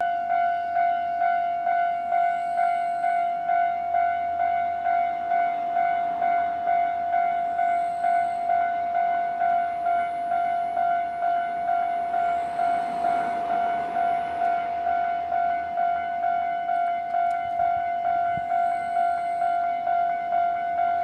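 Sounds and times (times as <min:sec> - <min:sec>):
level crossing alarm ringing: 0:00.0 - 0:21.0.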